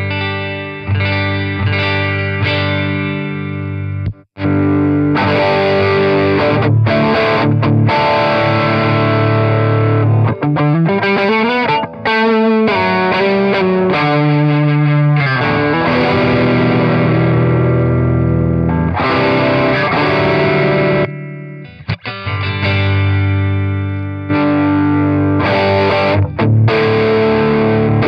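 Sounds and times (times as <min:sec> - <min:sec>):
distorted electric guitar: 0:00.0 - 0:28.0.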